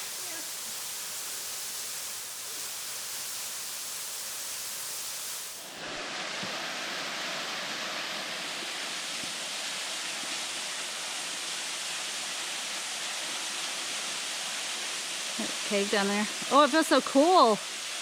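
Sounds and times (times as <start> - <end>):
small waterfall rushing: 0.0 - 18.0.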